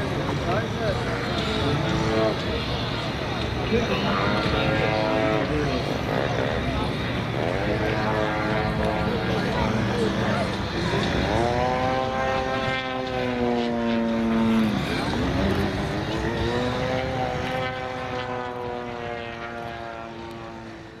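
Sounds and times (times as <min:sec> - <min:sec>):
propeller aircraft droning past: 0:00.0 - 0:21.0.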